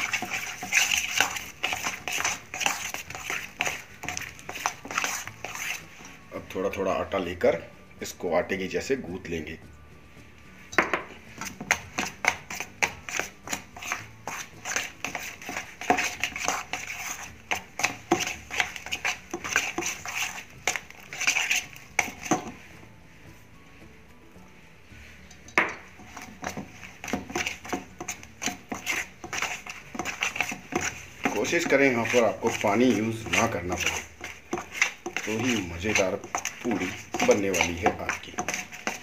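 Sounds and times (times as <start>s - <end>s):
dough kneaded in steel bowl: 0.0s - 9.7s, 10.5s - 39.0s.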